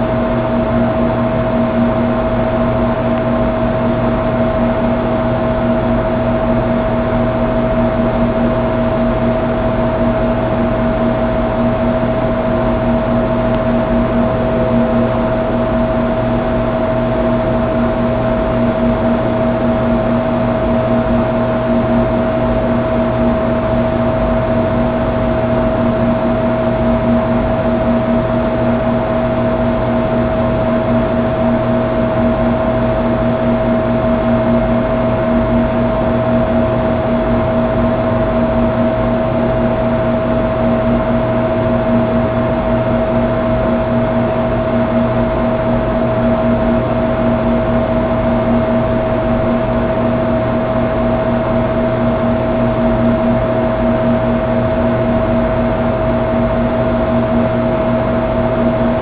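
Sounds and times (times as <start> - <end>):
electrical hum and hiss: 0.0 - 59.0
low buzzing tone: 0.0 - 59.0.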